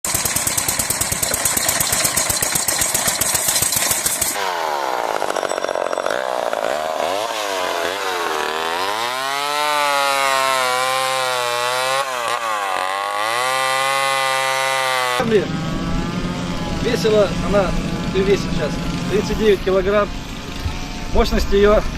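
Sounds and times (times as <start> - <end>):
chainsaw engine revving: 0.0 - 21.9.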